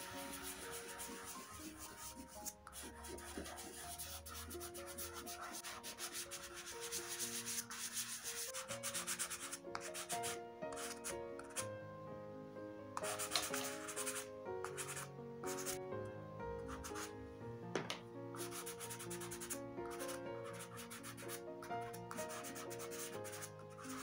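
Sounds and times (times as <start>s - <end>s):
fingertips rubbing pastel on card: 0.0s - 11.6s, 13.0s - 15.8s, 18.4s - 24.0s
pastel stick scraping card: 0.0s - 11.6s, 13.0s - 15.8s, 16.7s - 17.1s, 18.3s - 24.0s
soft background music: 0.0s - 24.0s.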